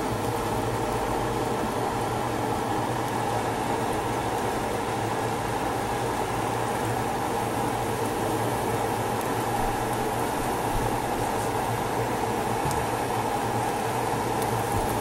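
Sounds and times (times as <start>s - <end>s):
kitchen hum and whooshing: 0.0s - 15.0s.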